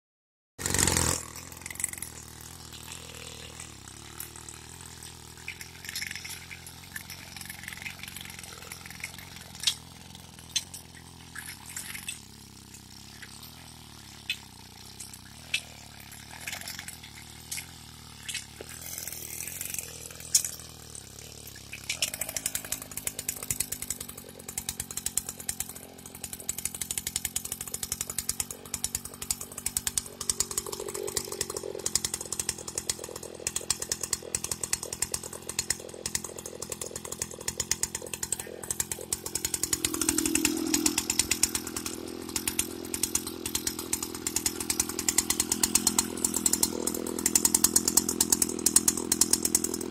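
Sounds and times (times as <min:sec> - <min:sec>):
two-stroke tiller engine running: 0:00.6 - 0:49.9.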